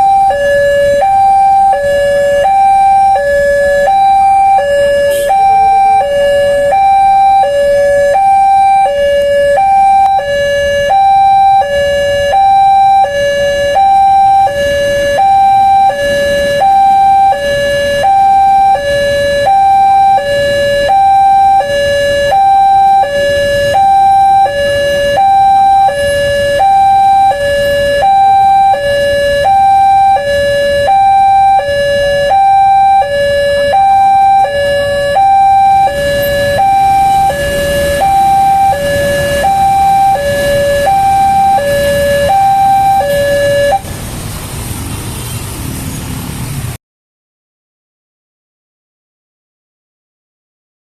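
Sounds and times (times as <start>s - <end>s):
two-tone level crossing alarm: 0.0s - 43.9s.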